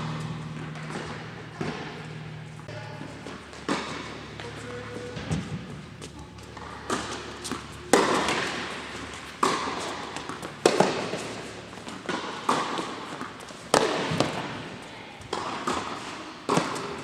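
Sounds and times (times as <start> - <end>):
tennis balls bouncing on court: 0.0 - 17.0
tennis balls hit by racquets: 0.0 - 17.0.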